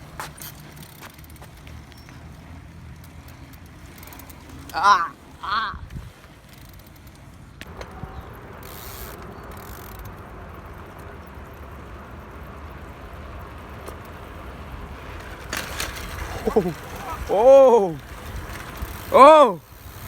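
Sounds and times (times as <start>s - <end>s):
tyre and road noise: 0.0s - 20.0s
freewheel ratcheting: 0.2s - 5.0s, 5.8s - 20.0s.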